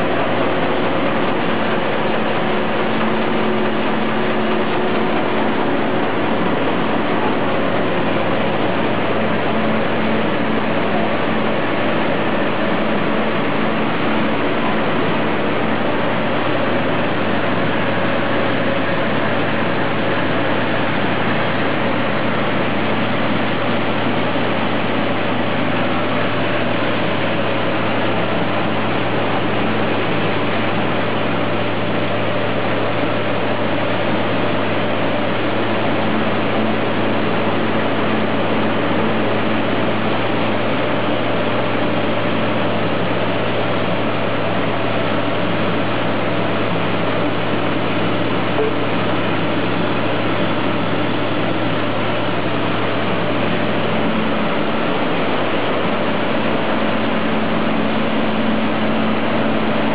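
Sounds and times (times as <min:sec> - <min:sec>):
constant low hum: 0:00.0 - 0:59.9
mill machinery running: 0:00.0 - 0:59.9.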